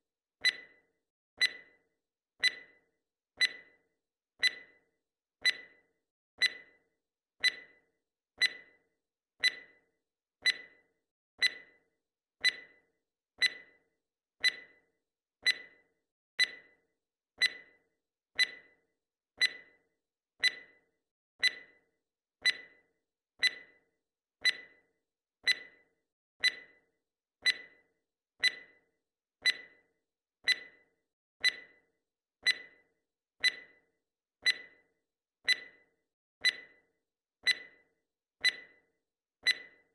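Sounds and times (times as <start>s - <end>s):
timer ticking clicks: 0.0s - 39.9s.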